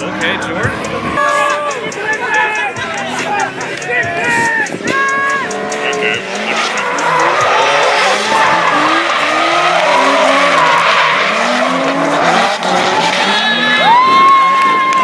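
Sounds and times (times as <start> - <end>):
car engines revving: 0.0 - 15.0
tyres skidding and squealing: 0.0 - 15.0.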